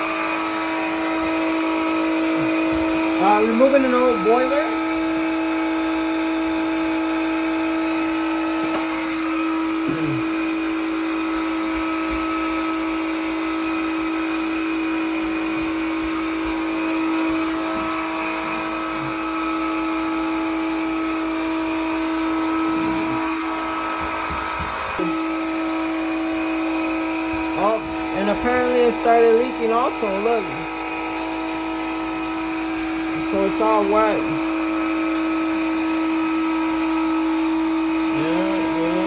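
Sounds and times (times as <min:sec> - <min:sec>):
small electric motor whining: 0:00.0 - 0:39.0.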